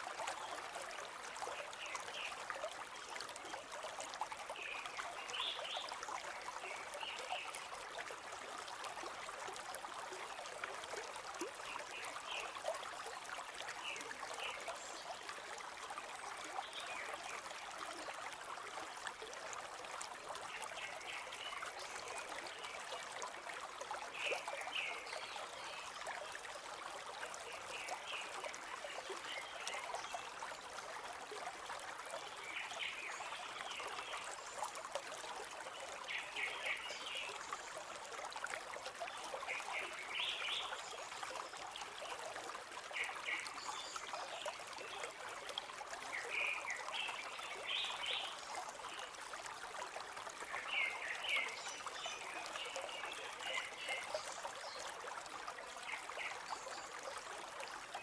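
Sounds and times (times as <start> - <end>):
stream gurgling: 0.0 - 58.0.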